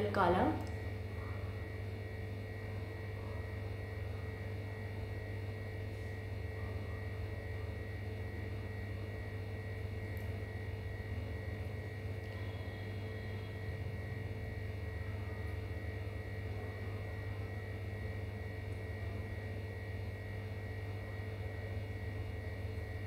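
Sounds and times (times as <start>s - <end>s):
electrical hum with buzz: 0.0s - 23.0s.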